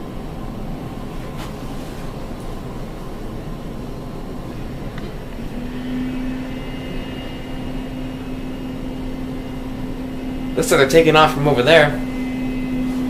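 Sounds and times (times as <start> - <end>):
jet engines rumbling: 0.0 - 13.0
steady low hum: 0.0 - 13.0.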